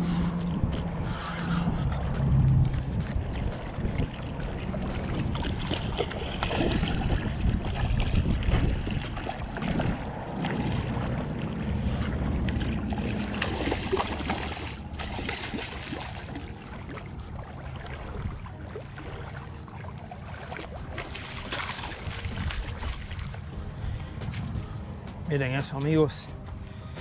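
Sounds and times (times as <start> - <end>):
wind rumble on microphone: 0.0 - 27.0
fish splashing in water: 2.1 - 24.8.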